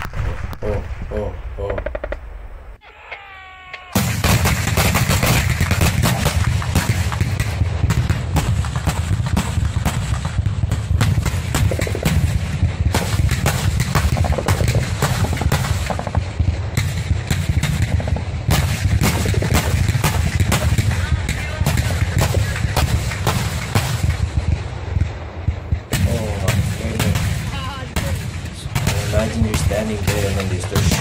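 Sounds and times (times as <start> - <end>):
constant low rumble: 0.0 - 31.0
heavy weapons firing rapid bangs: 4.0 - 31.0.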